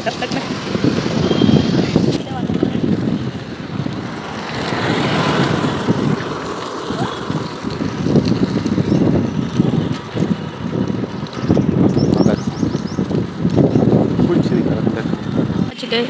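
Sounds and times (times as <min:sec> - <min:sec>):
bicycle road noise: 0:00.0 - 0:16.0
motor traffic: 0:00.0 - 0:16.0
wind buffeting microphone: 0:00.0 - 0:16.0.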